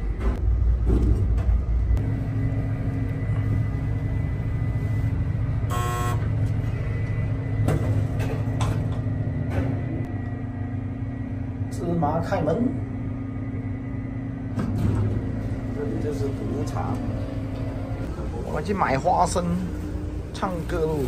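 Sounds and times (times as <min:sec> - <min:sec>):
constant hum: 0:00.0 - 0:21.0
ship machinery rumble: 0:00.0 - 0:21.0.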